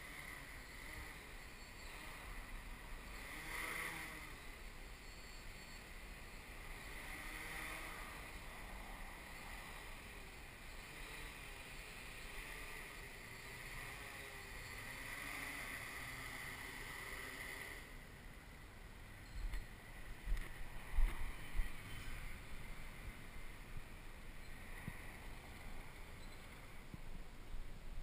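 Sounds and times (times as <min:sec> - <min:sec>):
drone propellers whirring: 0:00.0 - 0:27.9.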